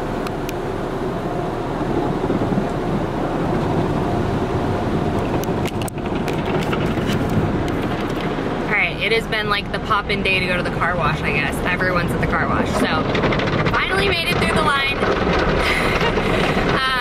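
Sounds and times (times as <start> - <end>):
car wash water spraying: 0.0 - 17.0.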